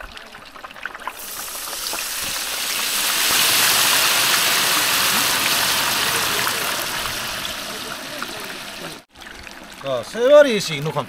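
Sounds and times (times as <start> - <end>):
oil sizzling from deep-frying: 0.0 - 11.0.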